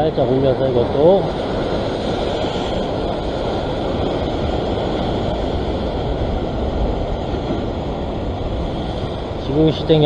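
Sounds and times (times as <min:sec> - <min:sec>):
ocean surf breaking over rocks: 0:00.0 - 0:10.0
wind on microphone: 0:00.0 - 0:10.0.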